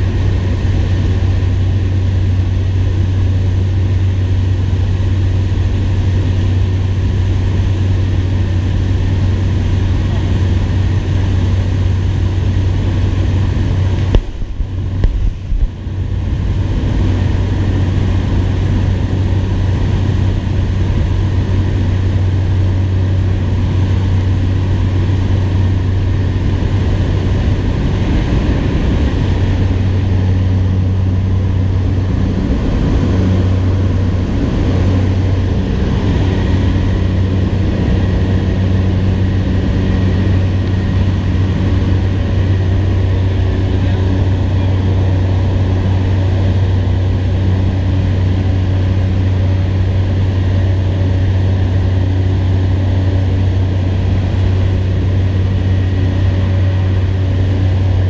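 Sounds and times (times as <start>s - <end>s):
propeller engine droning: 0.0s - 58.0s.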